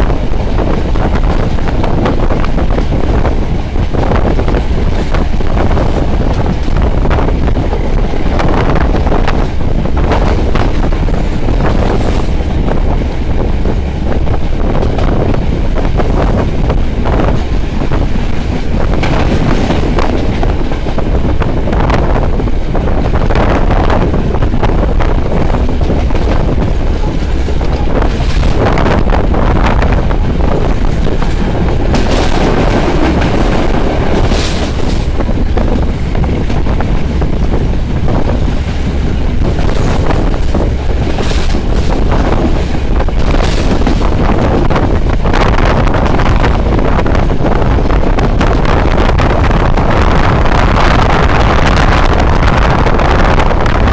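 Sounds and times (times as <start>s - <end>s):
clacks over rail joints: 0.0s - 53.9s
train wheels rumbling on rails: 0.0s - 53.9s
wind buffeting microphone: 0.0s - 53.9s.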